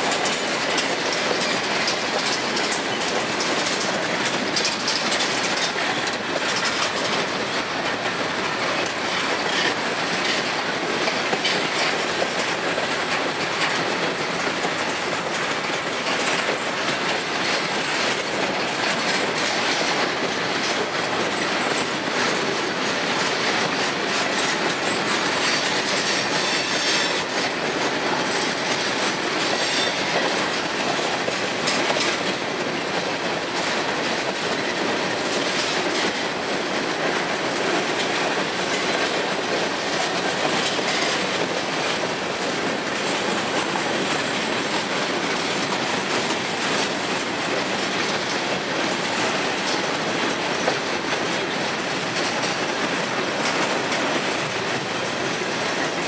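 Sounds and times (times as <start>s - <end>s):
train wheels rattling on rails: 0.0s - 56.0s.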